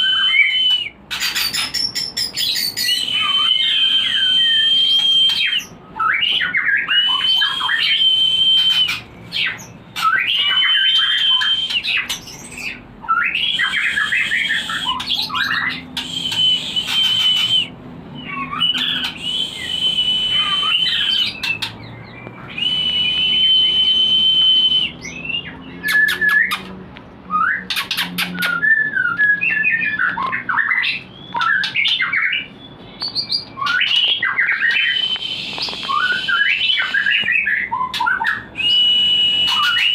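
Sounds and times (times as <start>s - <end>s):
bird singing with whistles: 0.0s - 26.7s, 27.3s - 39.9s.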